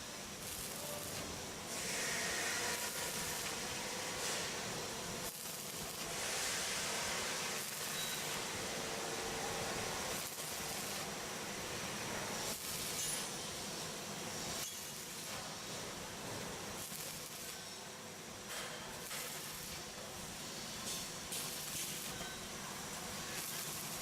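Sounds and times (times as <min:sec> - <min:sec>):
welding arc hissing: 0:00.0 - 0:24.0.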